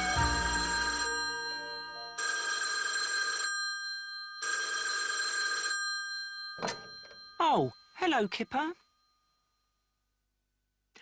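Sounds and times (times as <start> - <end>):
telephone bell ringing: 0.0 - 10.0.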